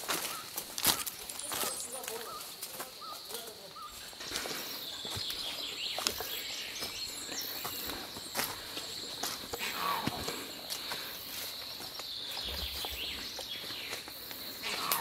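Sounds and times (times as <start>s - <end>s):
footsteps on dry leaves: 0.0s - 15.0s
insects humming: 0.0s - 15.0s.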